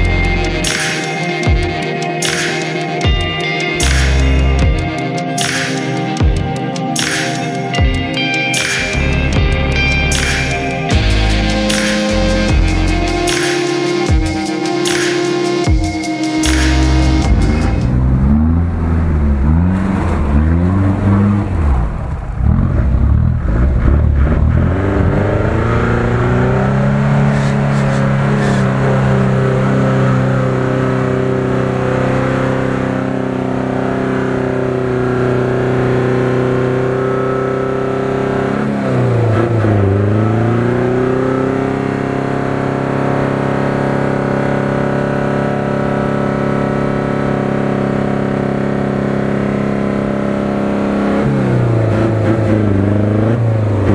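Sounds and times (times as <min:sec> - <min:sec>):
vehicle engine at high revs: 0:00.0 - 0:03.0, 0:08.6 - 0:53.9.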